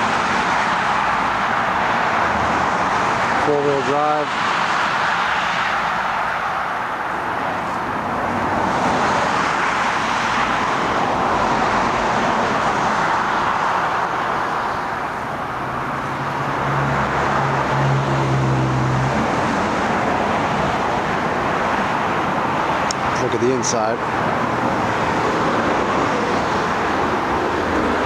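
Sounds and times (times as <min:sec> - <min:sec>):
road traffic noise: 0:00.0 - 0:28.0
low engine hum: 0:04.6 - 0:28.0.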